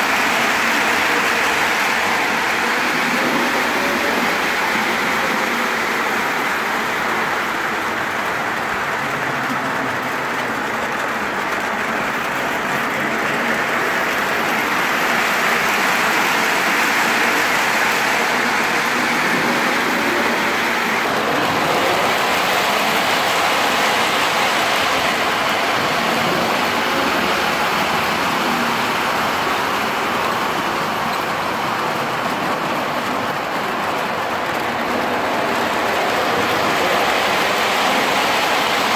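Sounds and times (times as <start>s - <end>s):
model trains rolling on track: 0.0s - 38.9s.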